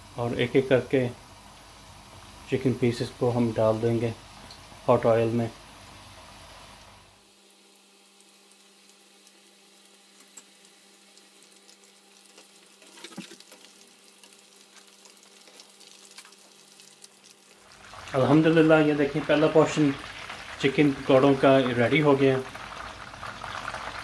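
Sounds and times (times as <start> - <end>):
food deep-frying in oil: 0.0 - 24.0.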